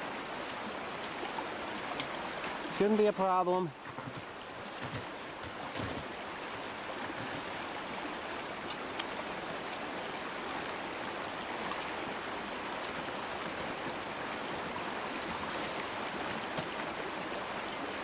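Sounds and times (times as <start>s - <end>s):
brook water rushing: 0.0s - 18.0s.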